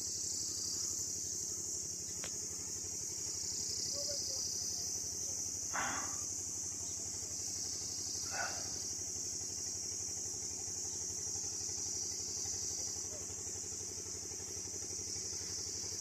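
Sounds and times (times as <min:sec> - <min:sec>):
high-pitched insect drone: 0:00.0 - 0:16.0
low engine hum: 0:00.0 - 0:16.0.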